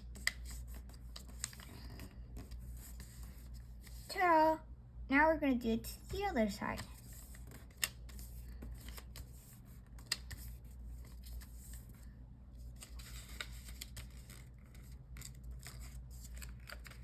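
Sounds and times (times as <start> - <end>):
paper rustling and crinkling: 0.0 - 4.1, 6.6 - 17.0
low steady hum: 0.0 - 17.0.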